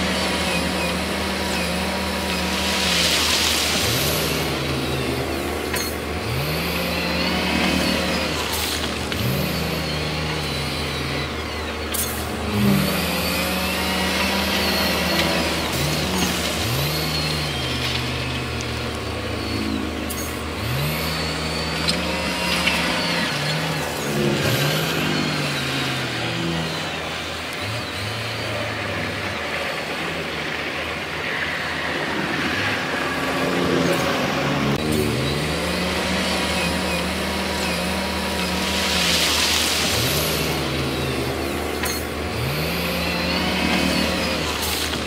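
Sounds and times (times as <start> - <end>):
heavy machinery engine revving: 0.0 - 45.0
low engine hum: 0.0 - 45.0.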